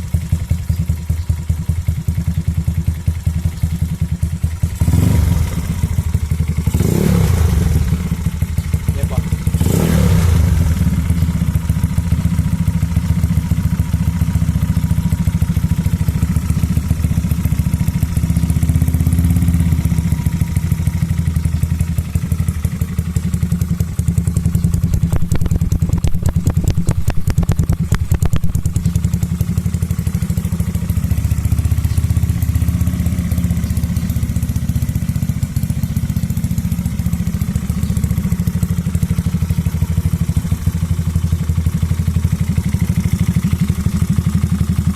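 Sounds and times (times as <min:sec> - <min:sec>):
scooter engine exhaust note: 0:00.0 - 0:44.9.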